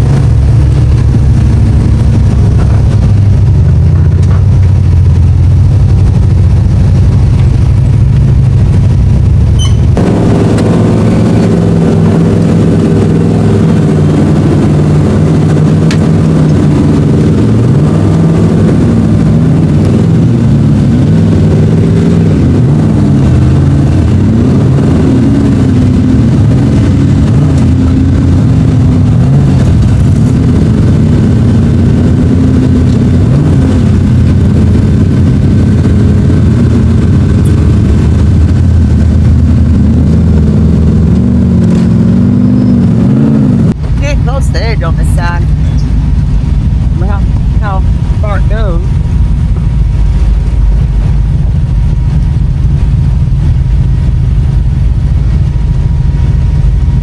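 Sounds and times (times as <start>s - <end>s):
off-road vehicle engine revving: 0.0s - 53.7s.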